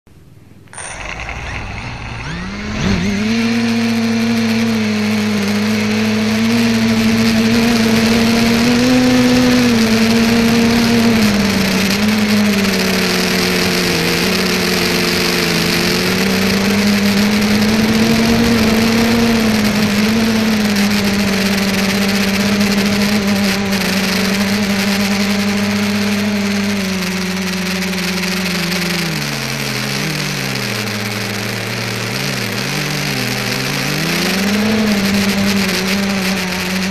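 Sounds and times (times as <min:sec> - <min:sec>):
drone motors and propellers humming: 0:00.3 - 0:36.9.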